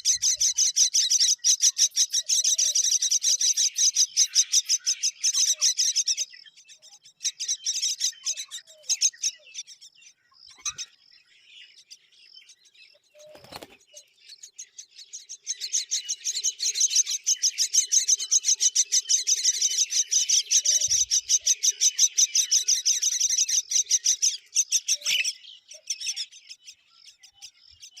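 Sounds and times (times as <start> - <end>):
baby birds chirping: 0.0 - 28.0.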